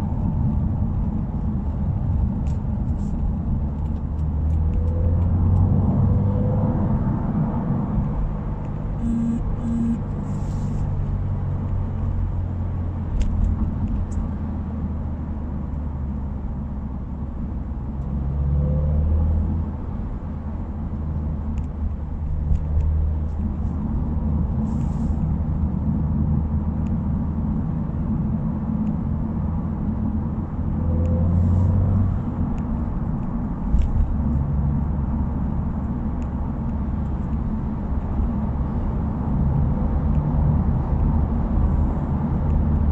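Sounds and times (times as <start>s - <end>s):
car engine and exhaust drone: 0.0s - 42.9s.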